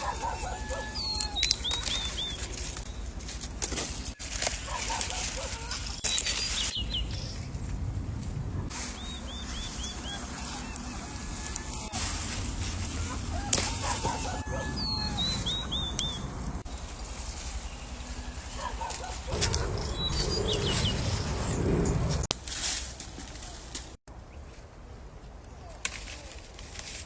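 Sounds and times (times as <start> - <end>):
low outdoor rumble: 0.0 - 22.3
small birds chirping: 0.0 - 22.3
rustling: 0.0 - 24.0.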